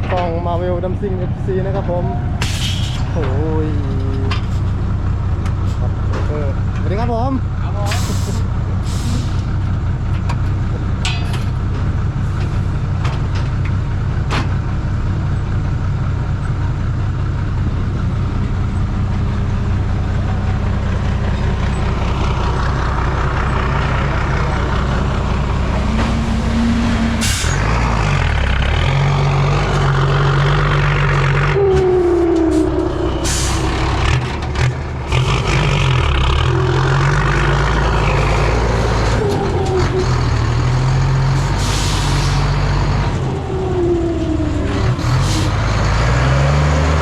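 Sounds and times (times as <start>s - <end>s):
dump truck engine running: 0.0s - 47.0s.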